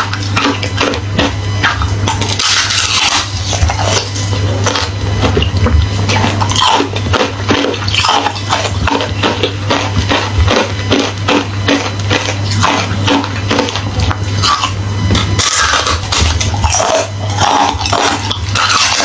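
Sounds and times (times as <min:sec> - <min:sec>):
ice crunching while chewed: 0:00.0 - 0:19.0.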